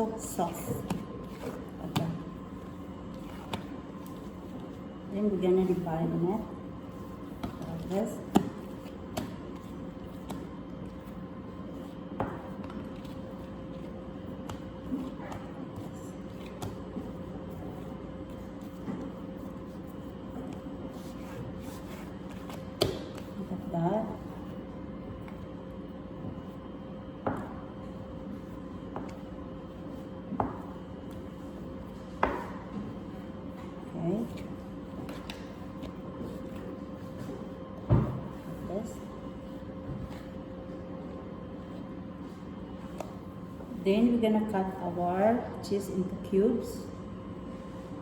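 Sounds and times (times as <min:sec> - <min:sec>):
low background hum: 0:00.0 - 0:48.0.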